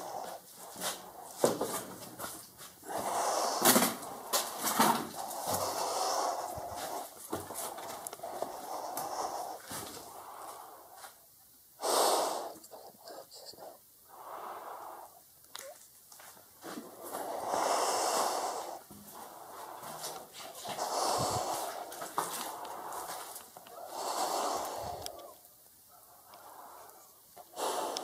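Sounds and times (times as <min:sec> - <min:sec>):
person breathing noisily: 0:00.0 - 0:01.6, 0:02.8 - 0:11.2, 0:11.8 - 0:15.3, 0:17.0 - 0:25.4, 0:26.0 - 0:28.0.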